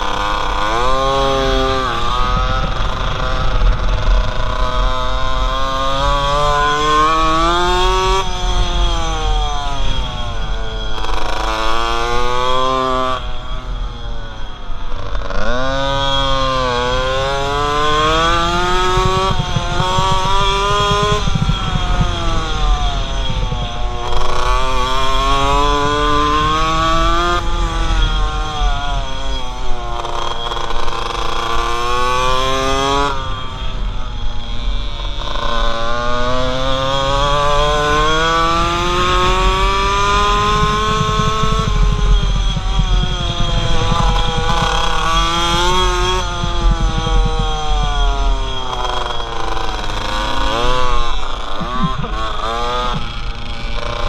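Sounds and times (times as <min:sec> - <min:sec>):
small two-stroke engine revving: 0:00.0 - 0:54.0
wind rumbling on camera: 0:00.0 - 0:54.0.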